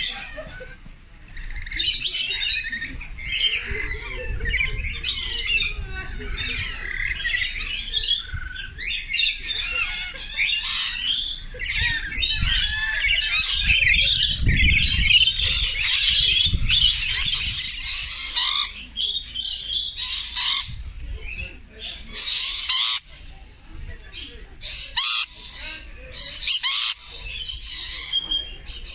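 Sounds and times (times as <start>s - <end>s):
lorikeets screeching and chattering: 0.0s - 23.4s, 24.1s - 28.9s.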